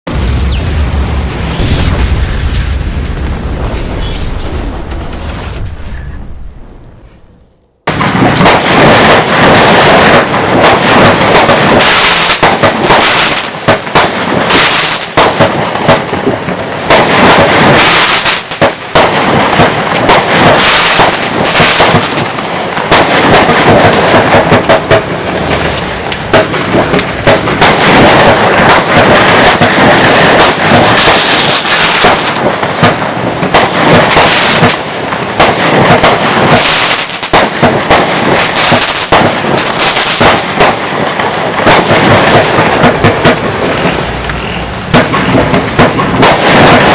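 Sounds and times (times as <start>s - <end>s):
fireworks volley of rapid shots: 0.1s - 5.7s, 7.8s - 46.9s.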